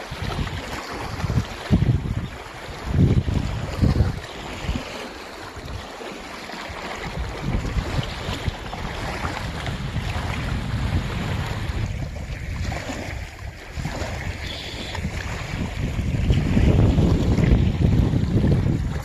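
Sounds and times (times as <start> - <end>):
wind buffeting microphone: 0.0 - 5.9, 6.6 - 19.0
small waves lapping rocky shore: 0.0 - 19.0.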